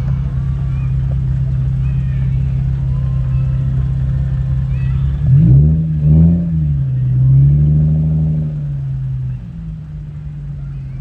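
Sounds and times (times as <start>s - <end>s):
car engine idling: 0.0s - 11.0s
car engine revving: 0.0s - 11.0s.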